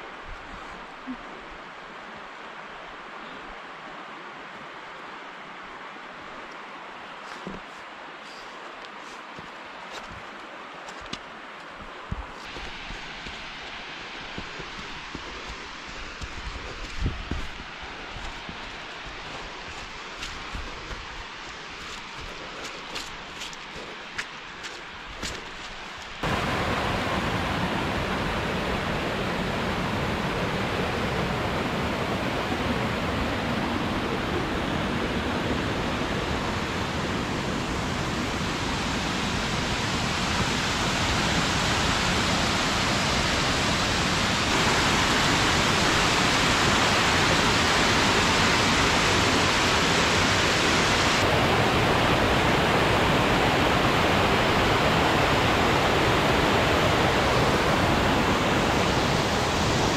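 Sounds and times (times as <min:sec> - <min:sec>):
rushing waterfall and stream: 0:00.0 - 0:59.9.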